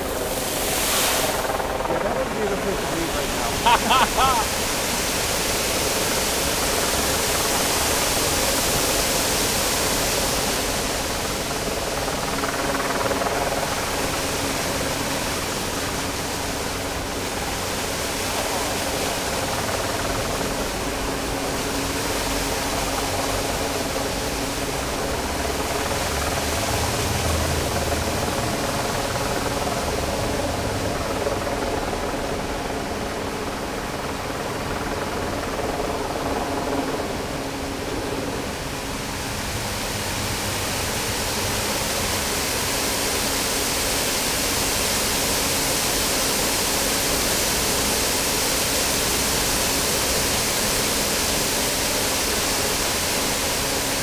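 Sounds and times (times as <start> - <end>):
fountain water splashing: 0.0 - 32.2, 37.1 - 54.0.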